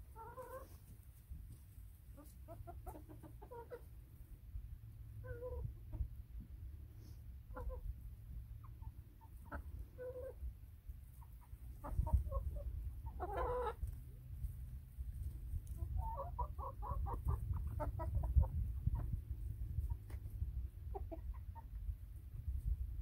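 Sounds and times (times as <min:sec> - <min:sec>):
chickens clucking: 0:00.0 - 0:22.9.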